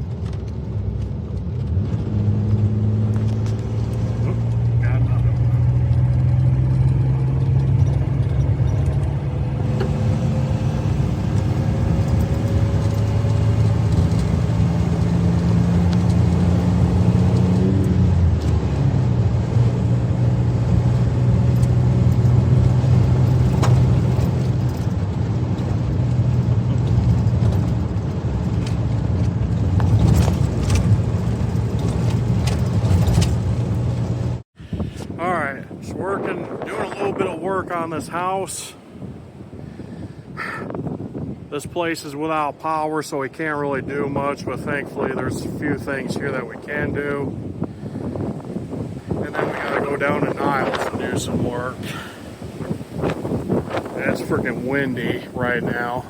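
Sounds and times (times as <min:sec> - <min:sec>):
car engine hum: 0:00.0 - 0:41.5, 0:43.8 - 0:56.0
road noise: 0:00.0 - 0:56.0.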